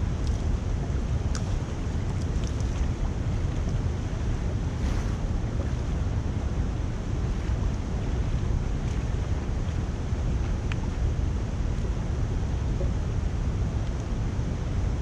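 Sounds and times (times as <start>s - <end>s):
water rushing: 0.0s - 15.0s
wind buffeting microphone: 0.0s - 15.0s.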